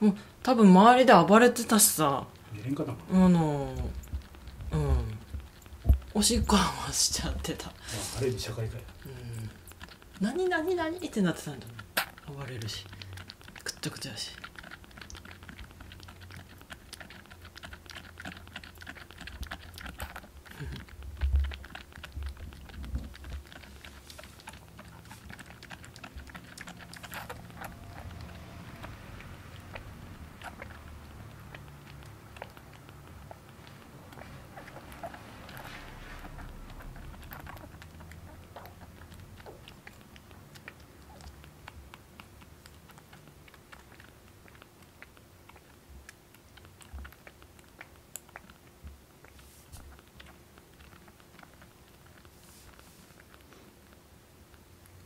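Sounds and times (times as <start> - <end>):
kitten sucking from a bottle: 0.1 - 55.0.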